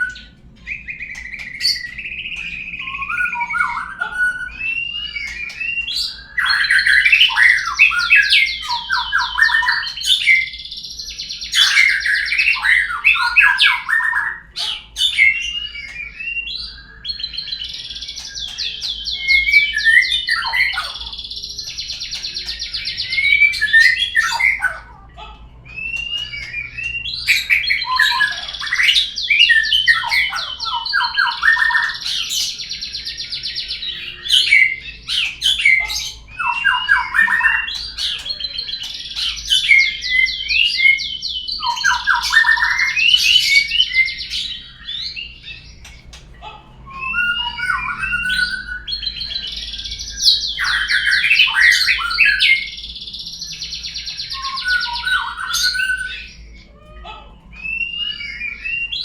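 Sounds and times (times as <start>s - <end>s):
songbird trills and whistles: 0.0s - 59.0s.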